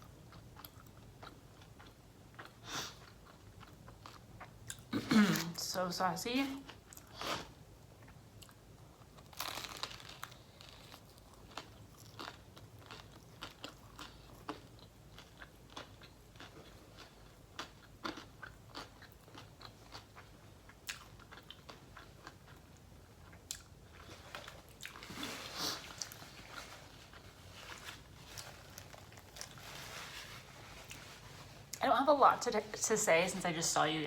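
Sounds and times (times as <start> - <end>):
chewing crunchy sandwich: 0.0 - 5.0, 6.6 - 31.8.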